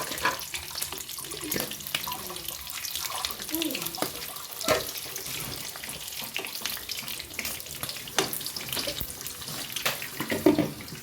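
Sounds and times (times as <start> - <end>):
sausages sizzling in oil: 0.0 - 11.0.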